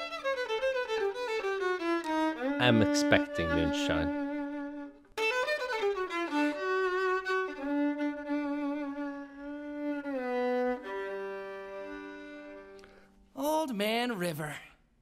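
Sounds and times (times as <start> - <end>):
slow instrumental melody: 0.0 - 13.3.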